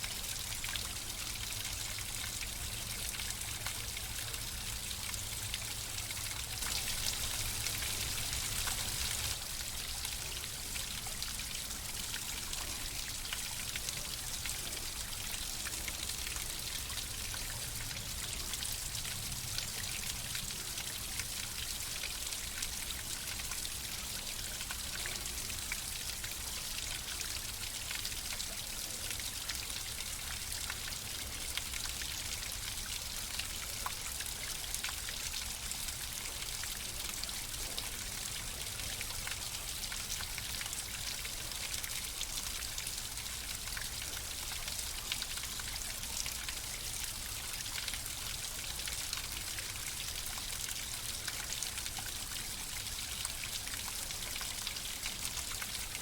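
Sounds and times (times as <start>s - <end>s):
water drips and splashes: 0.0s - 56.0s.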